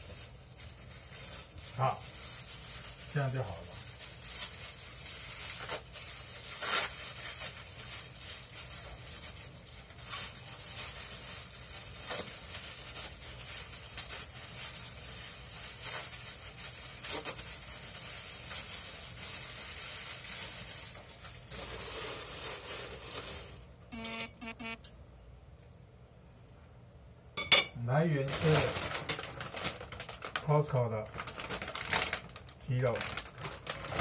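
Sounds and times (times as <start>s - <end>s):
plastic gloves crinkling: 0.0s - 24.2s, 28.2s - 34.0s.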